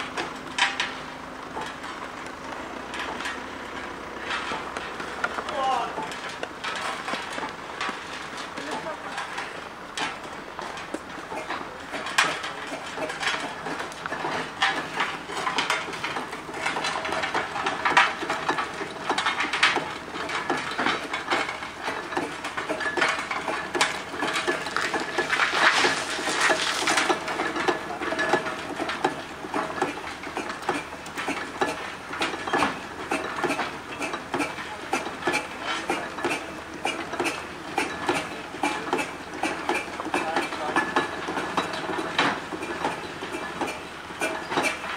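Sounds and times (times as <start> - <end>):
steam traction engine clanking: 0.0 - 44.9.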